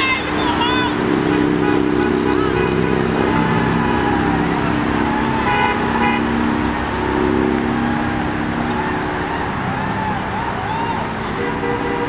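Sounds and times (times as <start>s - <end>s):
car horn toots: 0.0s - 9.0s, 11.2s - 12.0s
road traffic engine hum: 0.0s - 12.0s.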